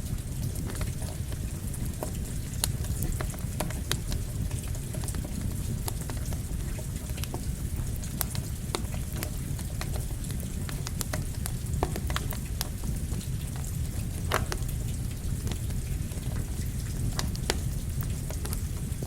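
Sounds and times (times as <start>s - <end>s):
campfire crackling and popping: 0.0s - 19.0s
rain falling: 0.0s - 19.0s.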